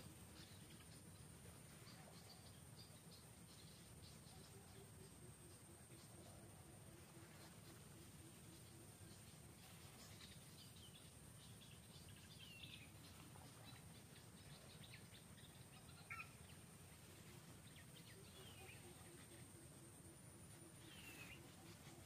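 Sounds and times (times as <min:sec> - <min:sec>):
faint bird chirps: 0:00.0 - 0:22.0
faint high-pitched whine: 0:00.0 - 0:22.0.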